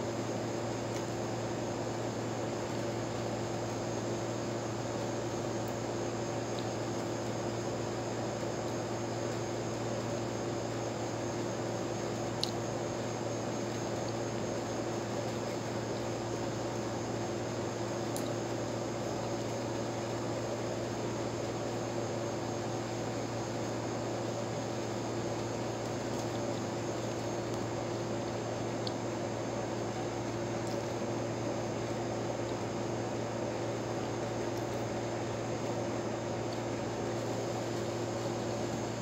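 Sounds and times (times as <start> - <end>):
electrical hum and hiss: 0.0 - 39.0.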